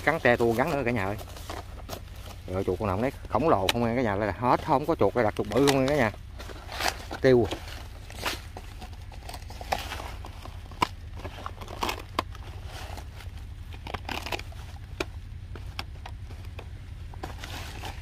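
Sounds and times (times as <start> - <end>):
snake trap netting rustling: 0.0 - 18.0
steady low rumble: 0.0 - 18.0.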